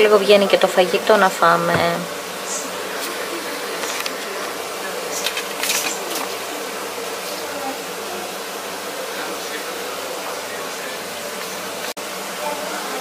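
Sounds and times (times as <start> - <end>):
electric machine hum: 0.0 - 13.0.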